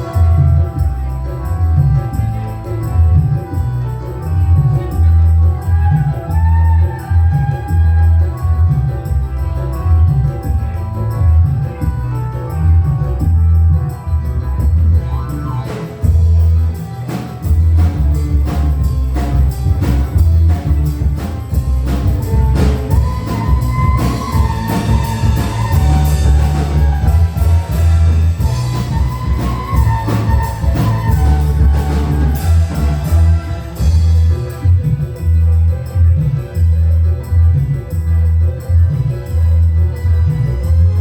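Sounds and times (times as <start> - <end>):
wavering melody line: 0.0 - 35.6
steady drum beat: 0.0 - 36.6
heavy bass: 0.0 - 41.0.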